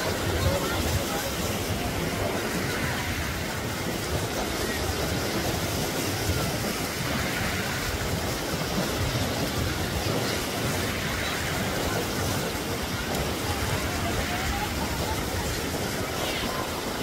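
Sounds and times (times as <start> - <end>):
beach surf: 0.0 - 17.0
indistinct voices: 0.0 - 17.0
wind on microphone: 0.0 - 17.0.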